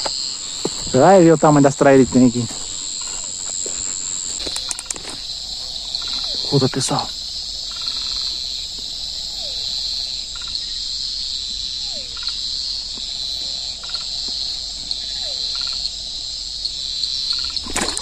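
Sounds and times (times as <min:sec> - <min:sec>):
insects trilling: 0:00.0 - 0:18.0
pulsed frog-like calls: 0:01.9 - 0:18.0.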